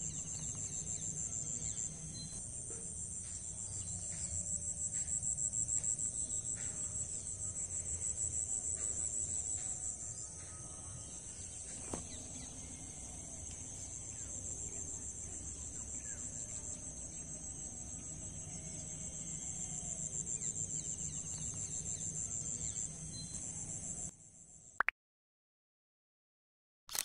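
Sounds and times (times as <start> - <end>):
insects chirring: 0.0 - 24.6.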